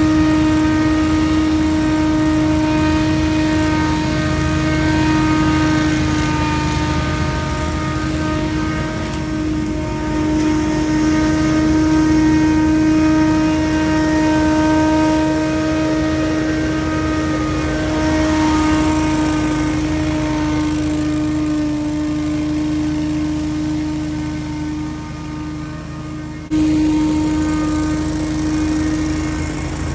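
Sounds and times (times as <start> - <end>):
leaf blower running: 0.0 - 29.9.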